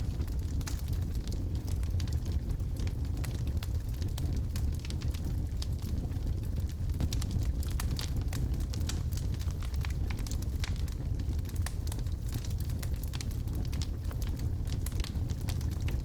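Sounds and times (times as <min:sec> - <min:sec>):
fire rumbling: 0:00.0 - 0:16.0
logs crackling and popping: 0:00.0 - 0:16.0.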